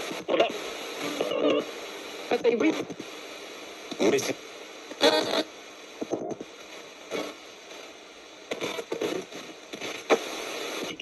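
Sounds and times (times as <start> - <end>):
radio static hiss: 0.0 - 11.0
snatches of broadcast sound: 0.0 - 11.0.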